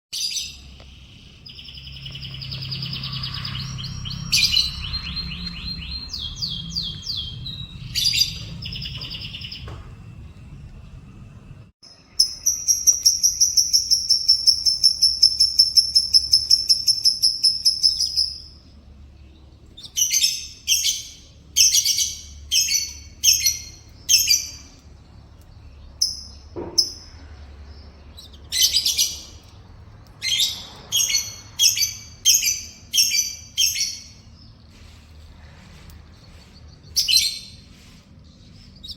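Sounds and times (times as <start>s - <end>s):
canary singing trills and chirps: 0.1s - 9.8s, 11.8s - 35.0s, 36.0s - 38.9s.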